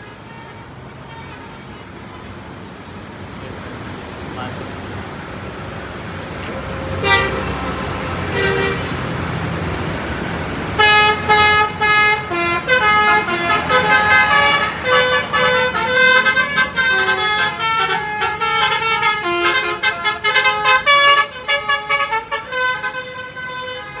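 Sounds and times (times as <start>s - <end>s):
multi-tone bus horn melody: 0.0s - 2.6s, 6.4s - 24.0s
bus engine: 0.0s - 24.0s
traffic noise: 0.0s - 24.0s.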